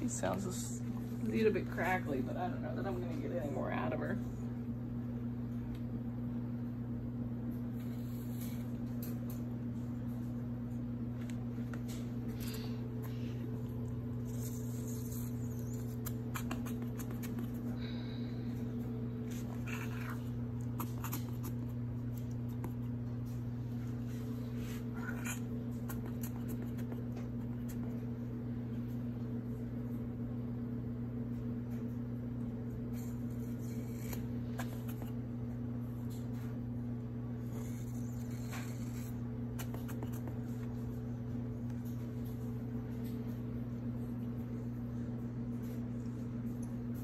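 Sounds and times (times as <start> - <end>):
low electrical hum: 0.0 - 47.0.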